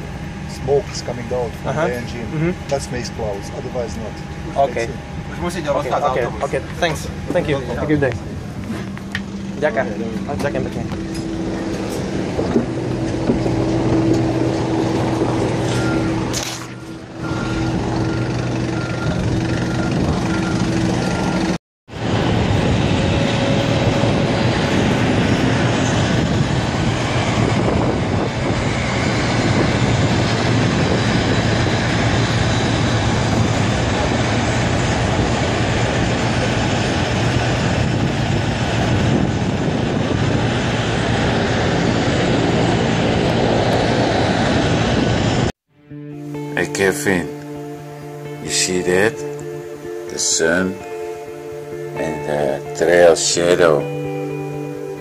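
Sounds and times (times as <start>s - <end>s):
moving vehicle rumbling: 0.0s - 45.6s
airliner cabin drone: 0.0s - 55.0s.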